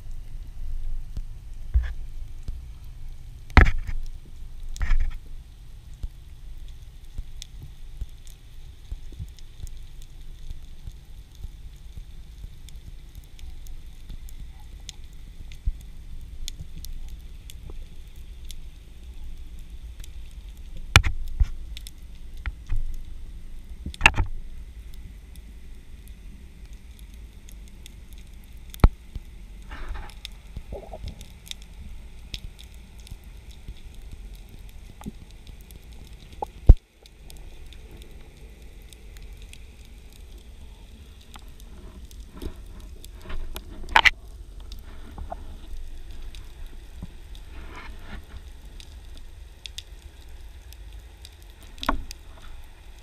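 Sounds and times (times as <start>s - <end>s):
faint clicks and crackles: 0.0s - 53.0s
underwater low rumble: 0.0s - 53.0s.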